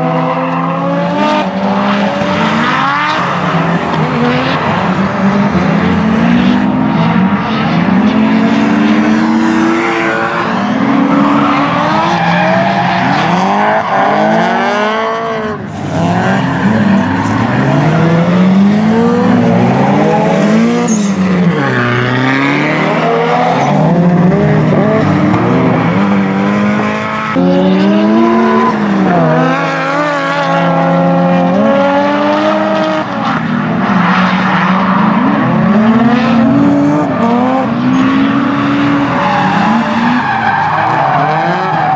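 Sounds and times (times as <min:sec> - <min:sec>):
car engines revving: 0:00.0 - 0:41.9
tyres squealing and skidding: 0:00.2 - 0:30.6, 0:33.8 - 0:41.9.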